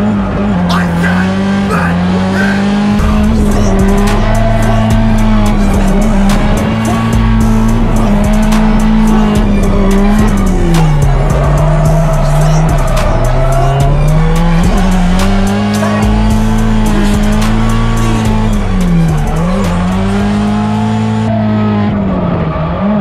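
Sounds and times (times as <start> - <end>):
car engine high revs: 0.0 - 23.0.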